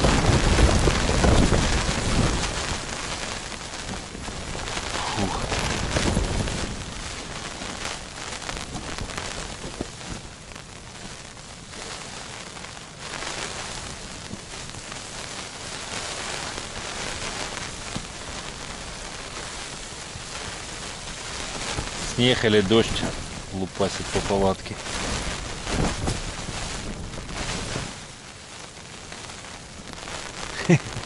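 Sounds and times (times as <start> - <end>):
rain and snow pattering on tent: 0.0 - 31.0.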